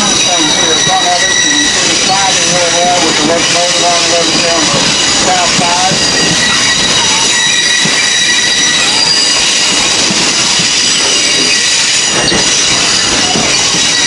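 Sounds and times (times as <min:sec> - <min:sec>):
train car rumbling on track: 0:00.0 - 0:14.0
train wheels squealing on rail: 0:00.0 - 0:14.0.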